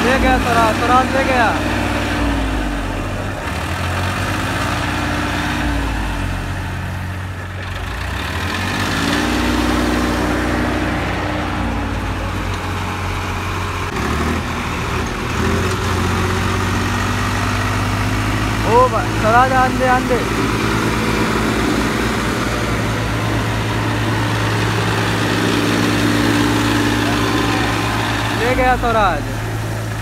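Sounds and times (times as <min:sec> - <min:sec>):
tractor diesel engines revving: 0:00.0 - 0:30.0.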